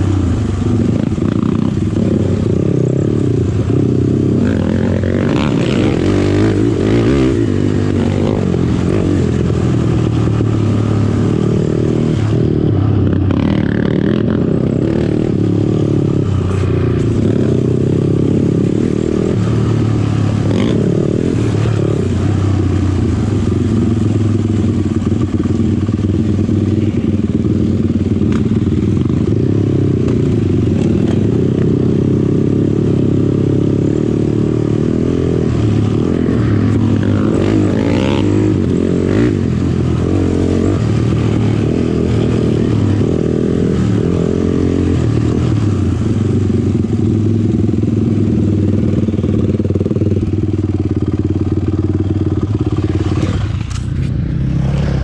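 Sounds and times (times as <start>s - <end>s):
quad engine under throttle: 0.0s - 55.0s.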